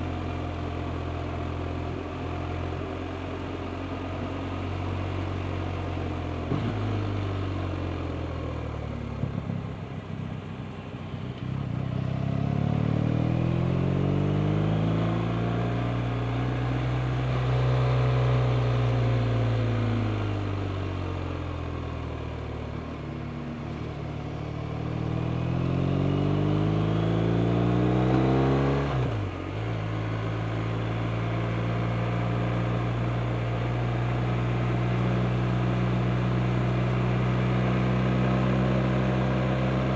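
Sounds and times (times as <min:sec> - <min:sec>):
motorcycle engine accelerating: 0:04.7 - 0:39.9.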